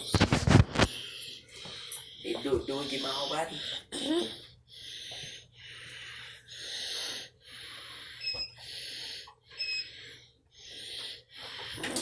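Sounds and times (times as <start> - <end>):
person breathing heavily: 0.0 - 12.0.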